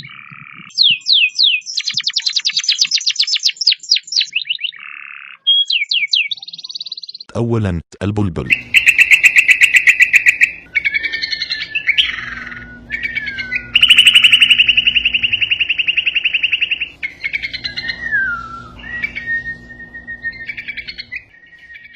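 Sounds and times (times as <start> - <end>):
bird singing trills: 0.0 - 7.3, 8.5 - 21.9.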